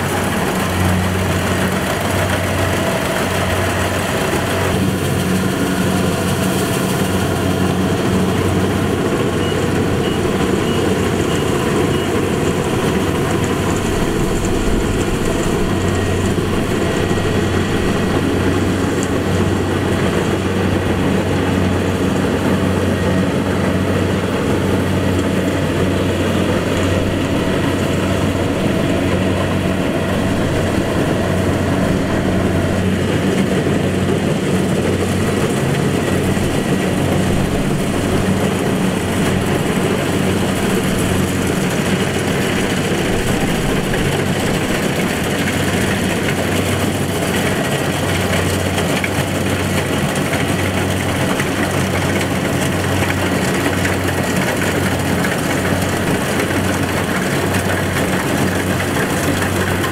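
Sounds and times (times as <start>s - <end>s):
combine harvester engine hum: 0.0s - 59.9s
machinery noise: 0.0s - 59.9s.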